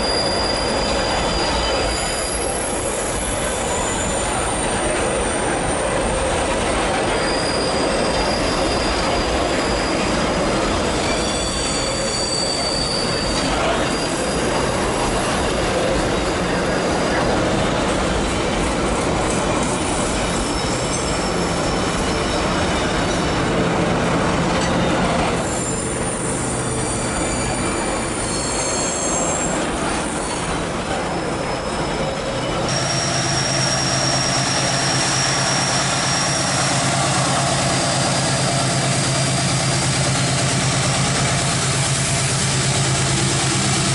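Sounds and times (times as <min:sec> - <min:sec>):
train wheels squealing: 0:00.0 - 0:23.6, 0:24.4 - 0:43.9
diesel locomotive engine drone: 0:00.0 - 0:43.9
freight cars rumbling on rails: 0:00.0 - 0:43.9.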